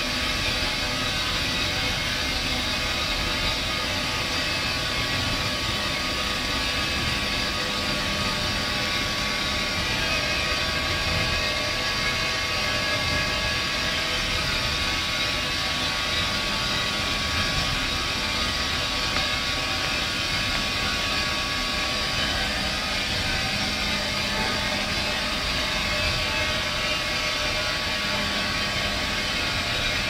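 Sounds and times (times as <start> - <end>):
faint machine whine: 0.0 - 30.0
machinery roar: 0.0 - 30.0.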